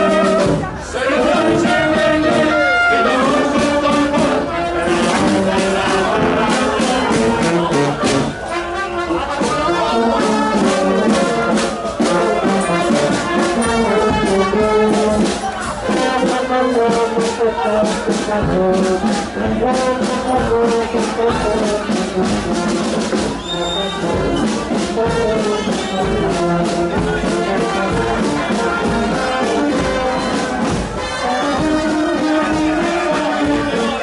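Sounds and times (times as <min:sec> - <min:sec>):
brass band playing: 0:00.0 - 0:34.0
drum beats: 0:00.0 - 0:34.0.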